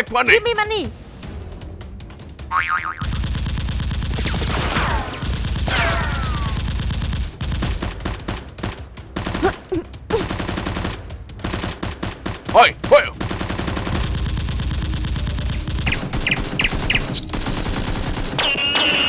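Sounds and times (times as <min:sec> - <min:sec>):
rapid automatic gunfire: 0:03.0 - 0:09.5, 0:10.2 - 0:19.0.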